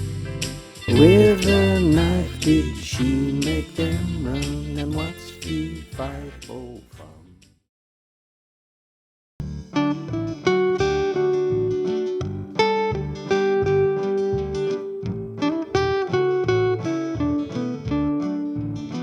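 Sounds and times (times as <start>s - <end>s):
acoustic guitar playing: 0.0s - 6.8s, 9.4s - 19.0s.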